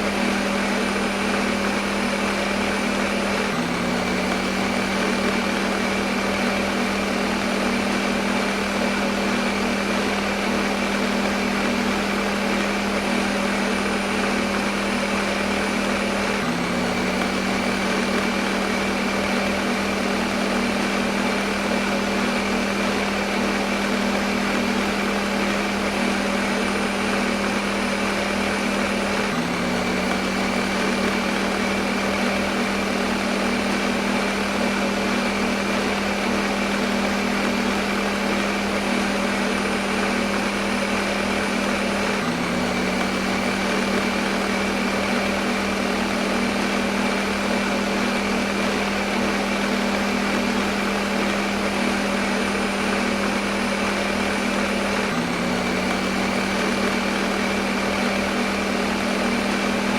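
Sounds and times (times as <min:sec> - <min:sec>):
blender motor whirring: 0:00.0 - 0:59.9.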